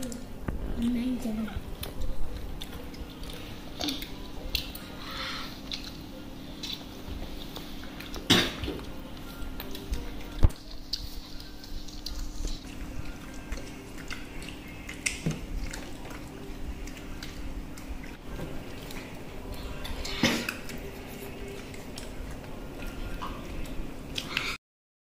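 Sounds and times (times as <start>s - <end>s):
steady low hum: 0.0s - 24.6s
eating clicks and smacks: 1.7s - 24.6s.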